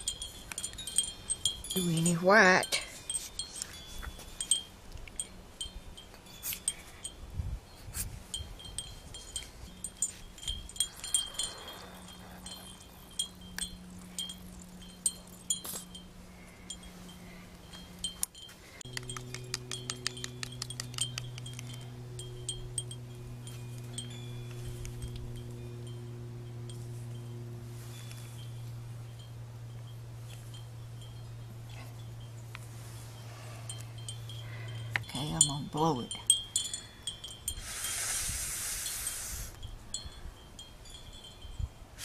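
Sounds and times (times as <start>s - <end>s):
steady low hum: 0.0s - 38.6s
metal wind chimes ringing: 0.0s - 42.0s.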